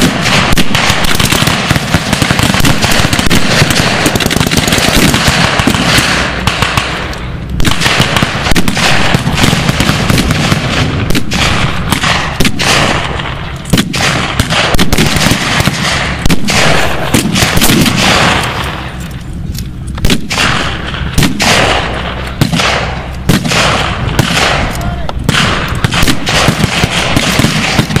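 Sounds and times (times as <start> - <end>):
rifle and machine gun fire: 0.0 - 19.0, 20.0 - 28.0.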